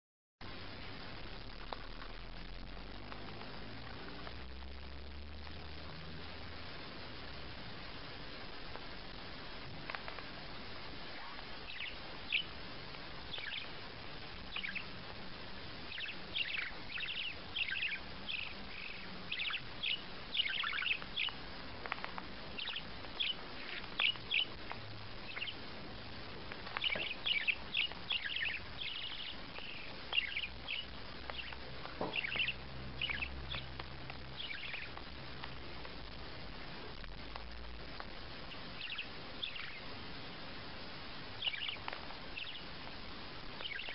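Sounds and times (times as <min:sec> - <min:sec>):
steady hiss: 0:00.4 - 0:43.9
parakeet chirping: 0:08.6 - 0:43.9.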